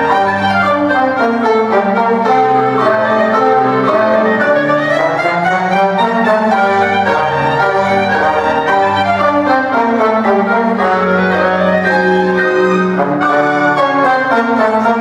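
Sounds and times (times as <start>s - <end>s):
chamber ensemble playing: 0.0s - 15.0s
violin melody: 0.0s - 15.0s.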